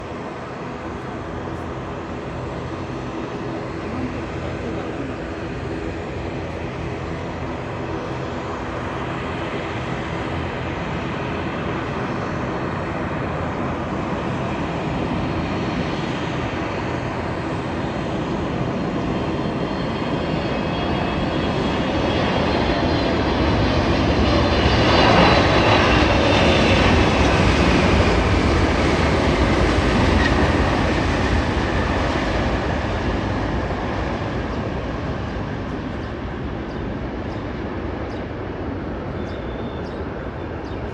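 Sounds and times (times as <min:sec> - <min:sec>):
jet airliner passing overhead: 0:00.0 - 0:40.9
jet engine whine: 0:00.0 - 0:40.9.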